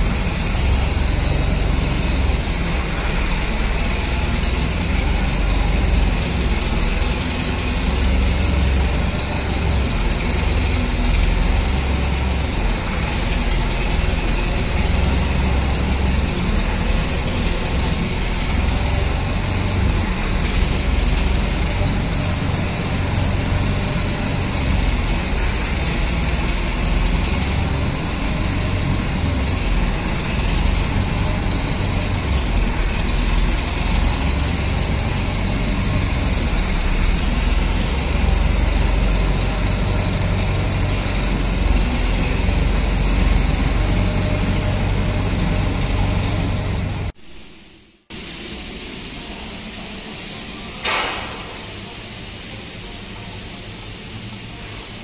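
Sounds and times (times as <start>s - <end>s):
engine rumbling: 0.0s - 47.2s.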